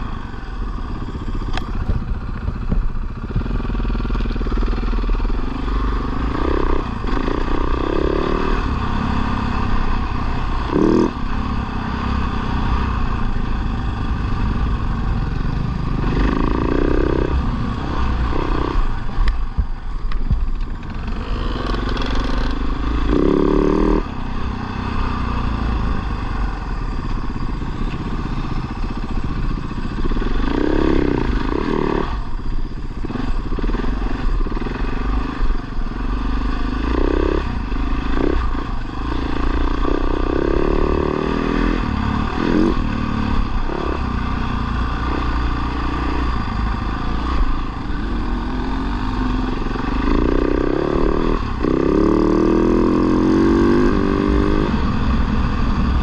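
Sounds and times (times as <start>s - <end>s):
dirt bike engine revving: 3.1s - 19.6s, 20.8s - 26.6s, 28.2s - 32.2s, 33.0s - 56.0s.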